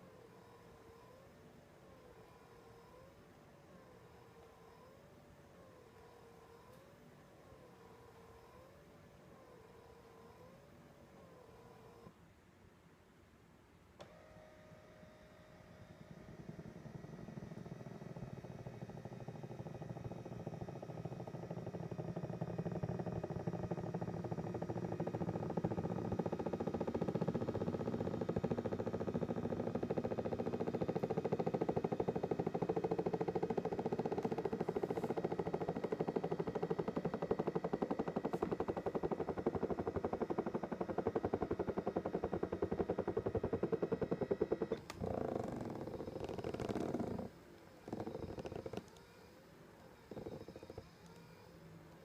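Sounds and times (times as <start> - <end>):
massage seat motor pulsing: 0.0 - 12.2, 14.0 - 52.0.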